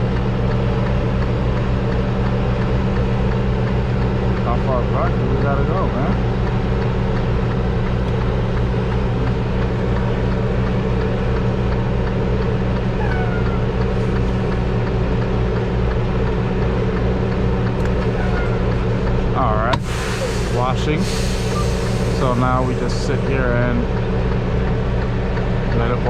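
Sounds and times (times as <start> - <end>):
truck diesel engine idling: 0.0 - 26.0.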